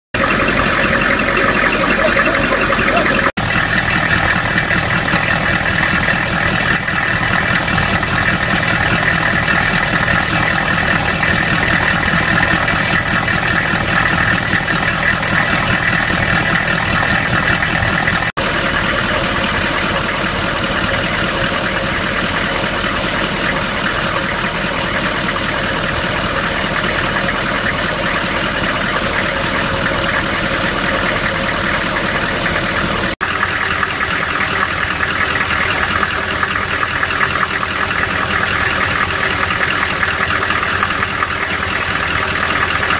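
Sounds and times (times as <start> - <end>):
diesel engine clattering: 0.2 - 42.9
rapid engine knocking: 0.2 - 42.9.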